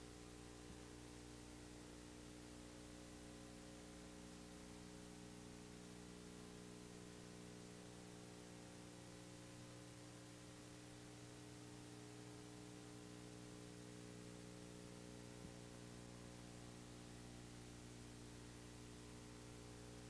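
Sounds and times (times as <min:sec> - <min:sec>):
faint electrical hum and hiss: 0:00.0 - 0:20.0.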